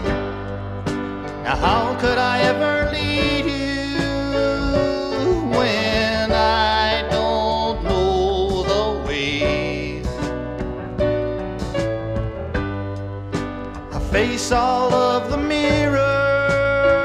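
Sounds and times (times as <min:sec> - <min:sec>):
folk-country band instrumental: 0:00.0 - 0:17.0
steady bass: 0:00.0 - 0:17.0.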